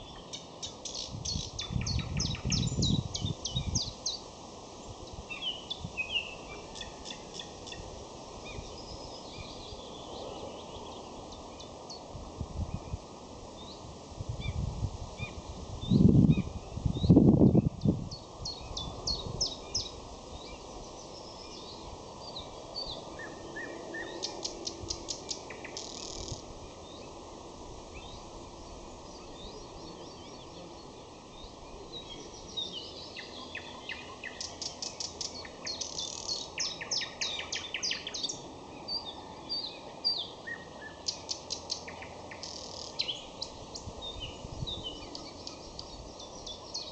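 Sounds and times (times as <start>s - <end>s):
nightingale singing: 0.0s - 4.3s, 5.1s - 12.1s, 15.2s - 27.2s, 29.0s - 46.9s
low background noise: 0.0s - 46.9s.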